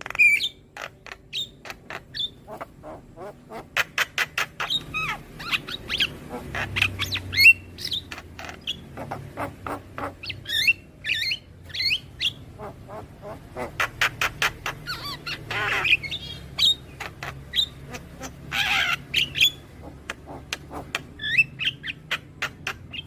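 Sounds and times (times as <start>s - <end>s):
myna calling: 0.0s - 23.0s.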